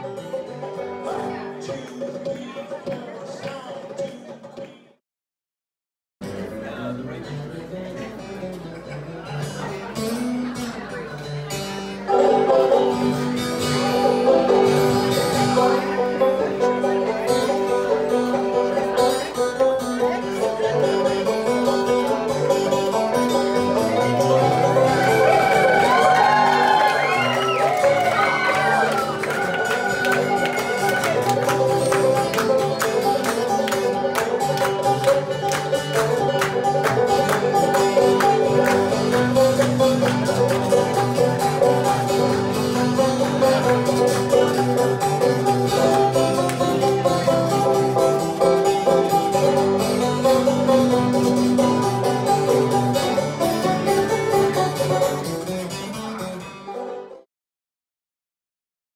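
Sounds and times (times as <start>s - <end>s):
bluegrass music with picked strings: 0.0s - 4.7s, 6.2s - 57.2s.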